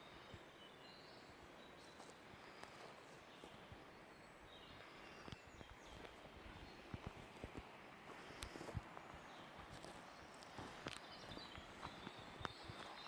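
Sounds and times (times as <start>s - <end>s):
soft footsteps on a trail: 0.0s - 13.0s.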